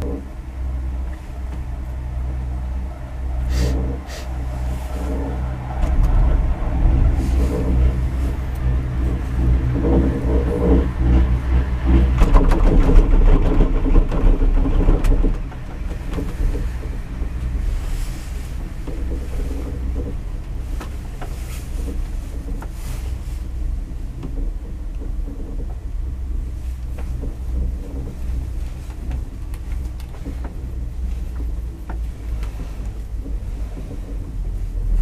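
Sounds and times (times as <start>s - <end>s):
cabin rattling through tower sheaves: 0.0s - 35.0s
cable car cabin hum and rumble: 0.0s - 35.0s.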